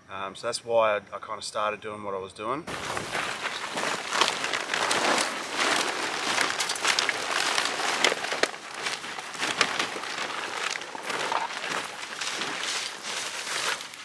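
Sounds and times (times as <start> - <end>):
plastic bags rustling: 2.7 - 14.0.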